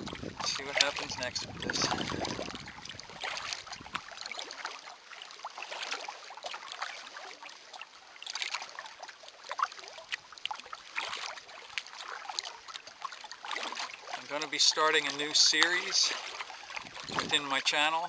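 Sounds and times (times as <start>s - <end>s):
water lapping against boat hull: 0.0s - 18.0s.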